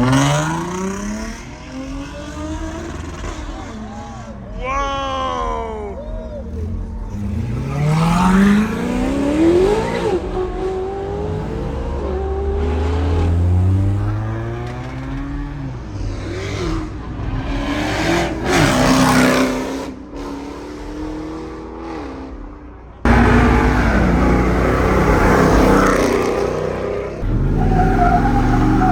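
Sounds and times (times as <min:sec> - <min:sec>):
car engines revving: 0:00.0 - 0:04.6, 0:05.2 - 0:28.9.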